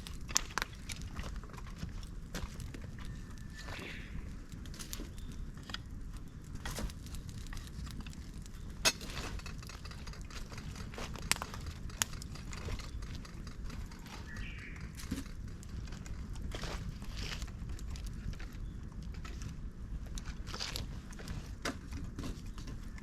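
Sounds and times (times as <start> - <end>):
bamboo fire crackling and popping: 0.0 - 23.0.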